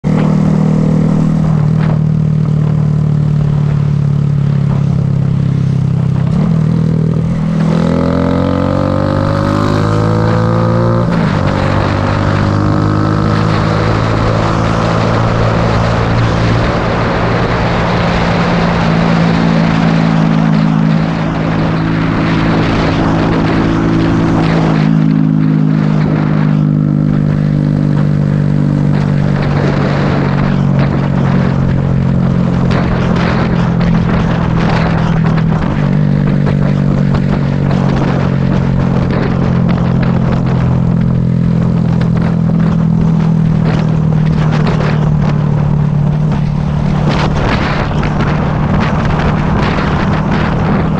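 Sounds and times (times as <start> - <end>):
motorcycle engine running: 0.0 - 50.9
wind rushing: 0.0 - 50.9.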